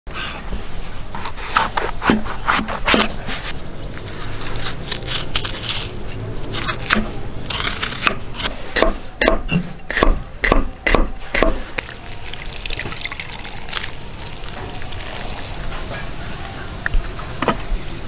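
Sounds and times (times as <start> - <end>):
metal spoon scraping melon: 1.1 - 16.8.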